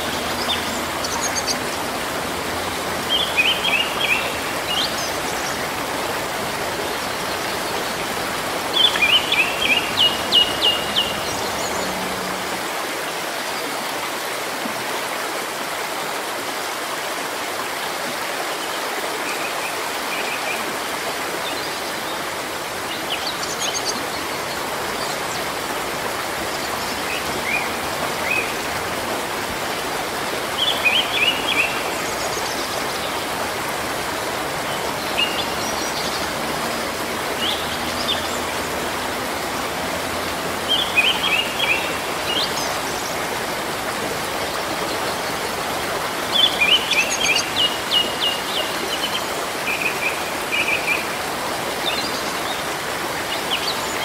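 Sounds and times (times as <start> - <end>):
brook and small waterfalls: 0.0 - 54.0.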